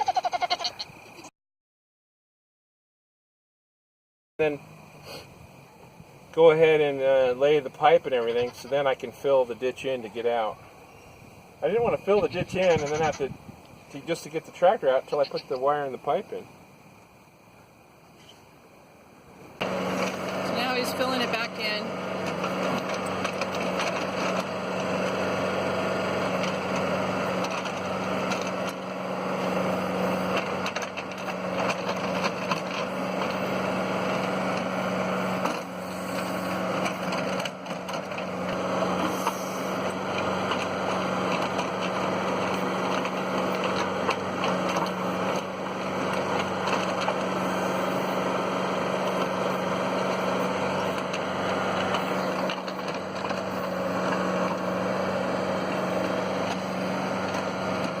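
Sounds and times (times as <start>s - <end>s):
tractor diesel engine running: 4.4s - 58.0s.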